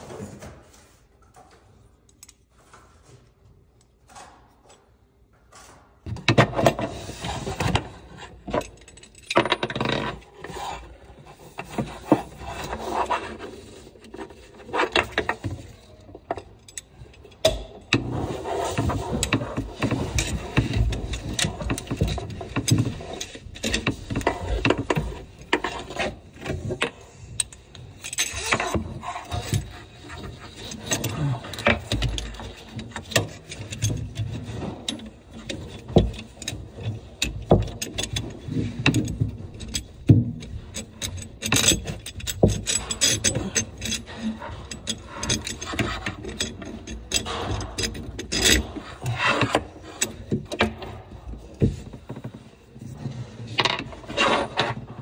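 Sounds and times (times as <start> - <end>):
hoses and metal fittings clicking: 1.2 - 2.8, 3.7 - 54.8.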